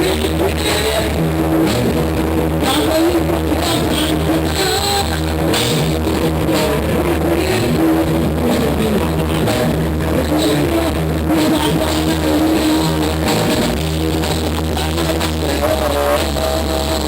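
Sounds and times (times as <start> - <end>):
drum kit beat: 0.0 - 16.2
band playing rock music: 0.0 - 17.0
guitar: 0.0 - 17.0.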